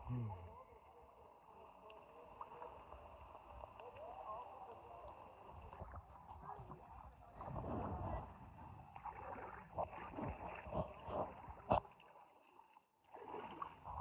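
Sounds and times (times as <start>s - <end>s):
river water sloshing and gurgling: 0.5s - 14.0s
water splashes: 0.5s - 14.0s.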